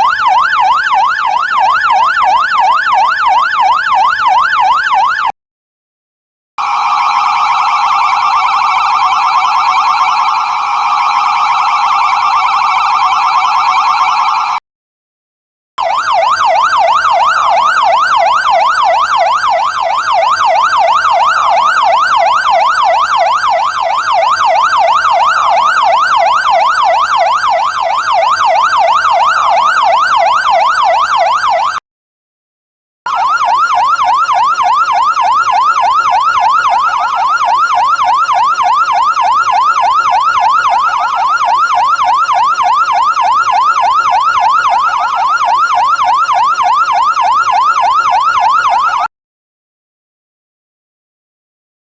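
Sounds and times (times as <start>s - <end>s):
fire truck siren yelping: 0.0s - 5.3s, 6.6s - 14.6s, 15.8s - 31.8s, 33.1s - 49.1s.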